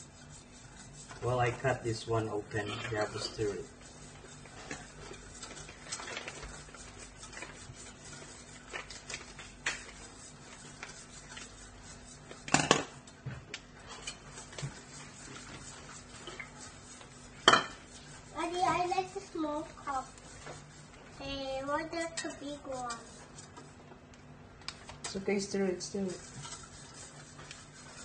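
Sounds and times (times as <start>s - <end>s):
utensil stirring batter in metal bowl: 0.0s - 24.0s, 24.6s - 28.0s.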